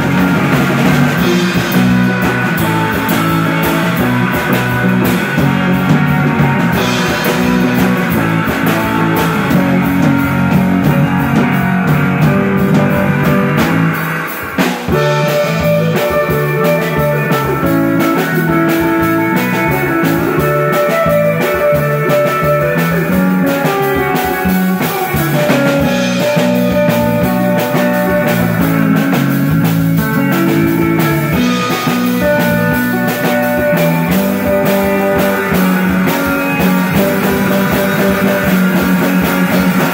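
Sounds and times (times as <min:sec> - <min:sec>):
drum kit with cymbal strokes: 0:00.0 - 0:39.9
electric guitars: 0:00.0 - 0:39.9.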